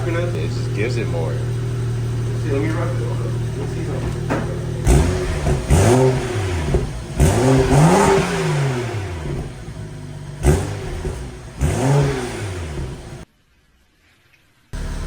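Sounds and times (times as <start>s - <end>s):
car engine revving: 0.0s - 13.2s, 14.8s - 15.0s.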